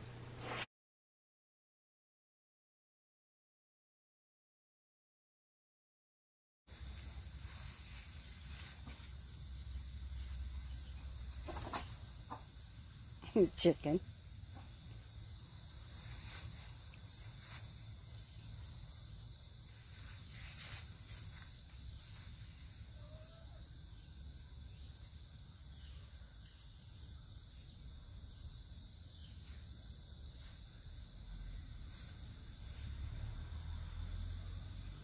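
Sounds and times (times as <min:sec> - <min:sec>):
high-pitched insect chorus: 0:06.7 - 0:35.0.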